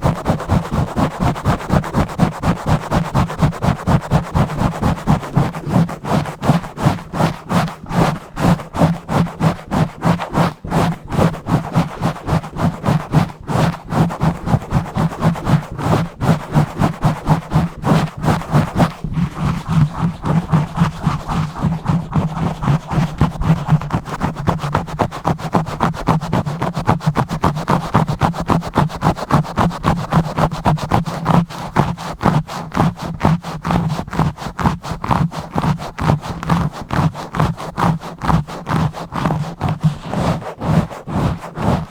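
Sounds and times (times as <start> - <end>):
fingers scratching a microphone: 0.0 - 41.9.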